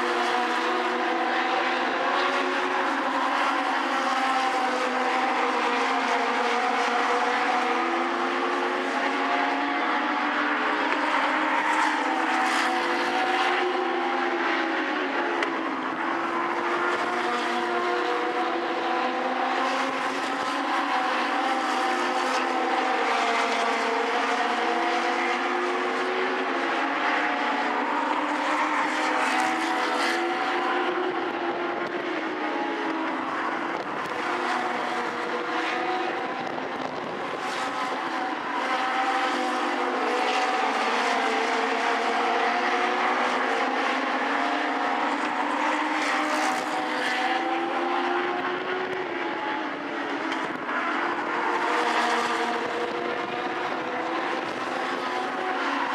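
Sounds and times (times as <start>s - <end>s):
race car engines: 0.0s - 55.9s.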